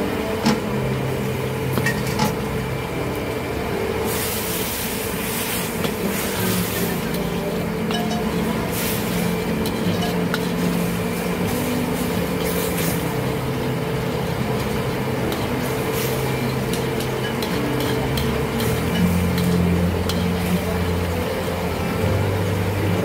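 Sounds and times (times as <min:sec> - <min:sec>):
gas burner hiss: 0:00.0 - 0:23.0
sauce bubbling and sizzling: 0:01.1 - 0:22.9.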